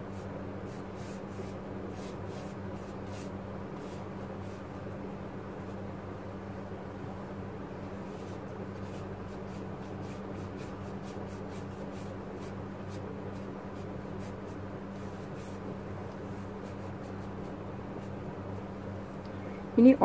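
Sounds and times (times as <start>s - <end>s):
paintbrush strokes on paper: 0.0s - 4.9s, 7.9s - 19.2s.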